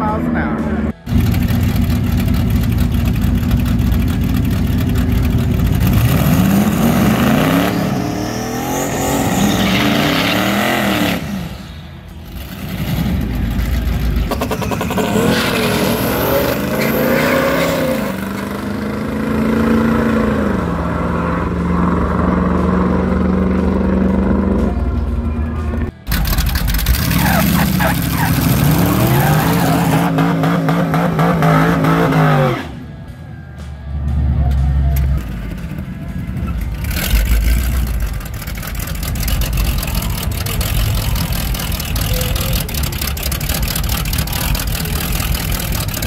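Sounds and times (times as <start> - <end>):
drag racing car engines revving: 0.0 - 46.0.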